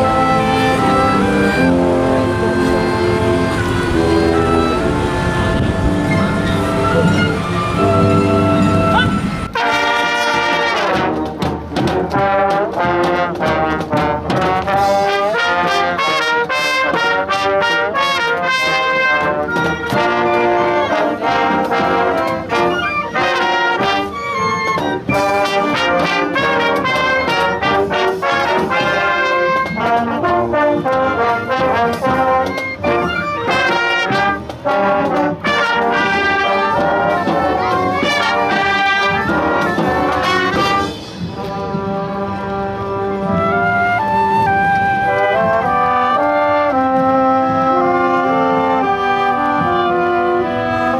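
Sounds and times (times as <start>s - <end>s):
marching band brass and winds: 0.0s - 50.9s.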